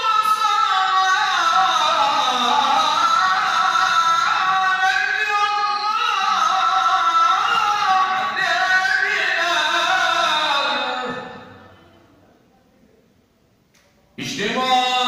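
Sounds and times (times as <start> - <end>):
man chanting unaccompanied: 0.0 - 11.7, 14.2 - 15.0.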